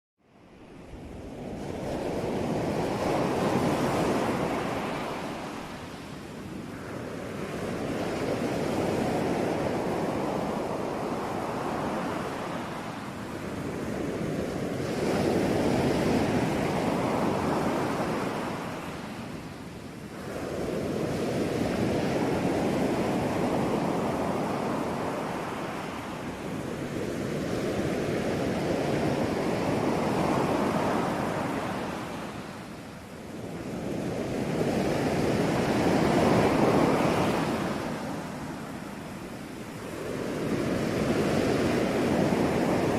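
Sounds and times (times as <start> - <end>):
waves breaking and washing in: 0.2 - 42.9
wind: 0.2 - 42.9.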